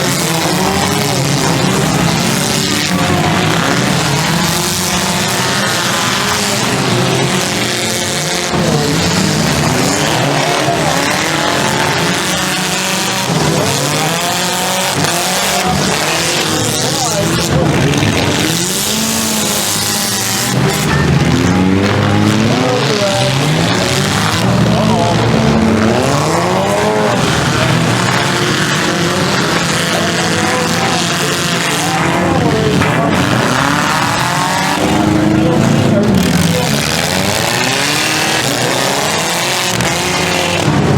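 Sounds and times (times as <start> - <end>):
car engines revving hard: 0.0 - 40.9.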